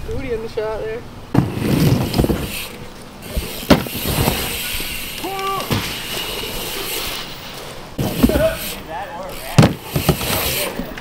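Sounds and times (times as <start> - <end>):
bike tyres rolling on ramp: 1.3 - 11.0.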